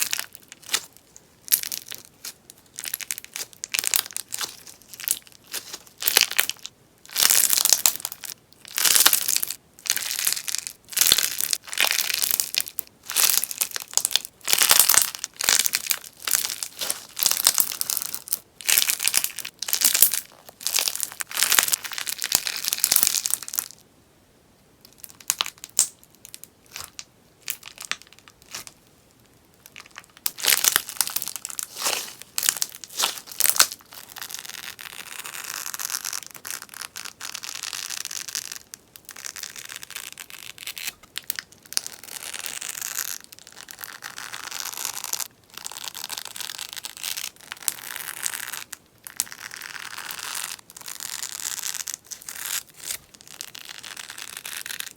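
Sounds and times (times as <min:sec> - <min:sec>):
slime crackling and popping: 0:00.0 - 0:23.8, 0:24.9 - 0:28.8, 0:29.6 - 0:54.9.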